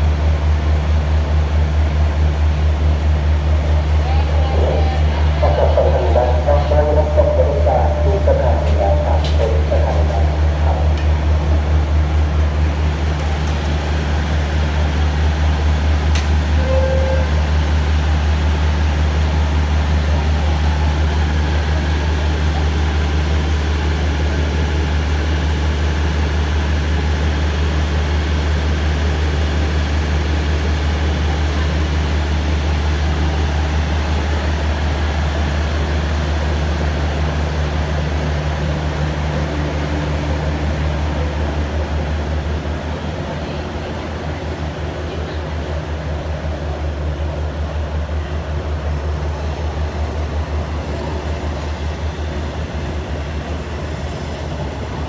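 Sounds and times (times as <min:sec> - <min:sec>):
diesel train engine droning: 0:00.0 - 0:55.0.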